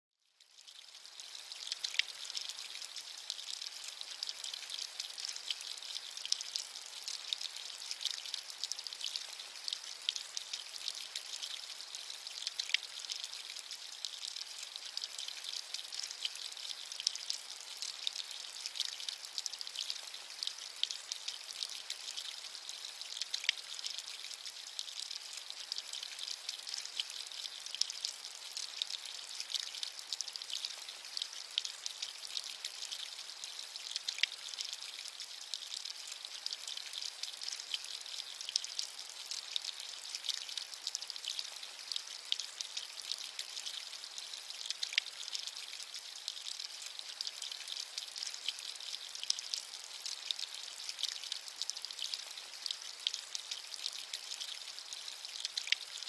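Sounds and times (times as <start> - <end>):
steady rain hiss: 0.6 - 56.0.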